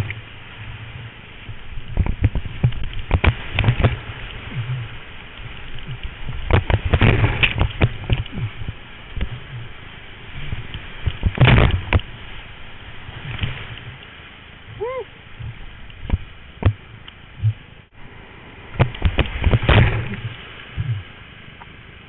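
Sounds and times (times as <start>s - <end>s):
paddle strokes slapping water: 0.0s - 18.0s, 18.6s - 22.0s
rushing water: 0.0s - 22.0s
water splashing: 0.0s - 22.0s.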